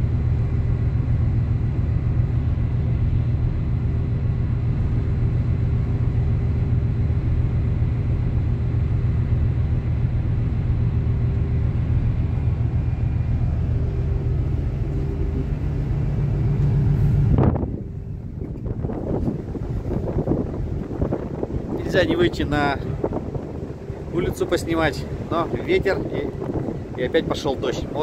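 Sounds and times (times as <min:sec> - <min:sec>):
ship engine drone: 0:00.0 - 0:28.0.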